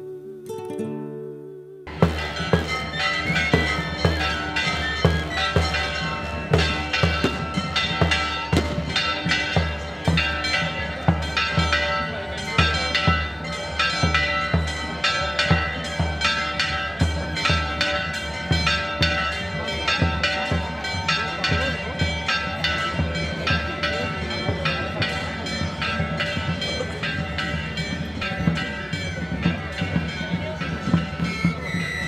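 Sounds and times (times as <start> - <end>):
bells ringing a rapid peal: 1.9 - 32.0.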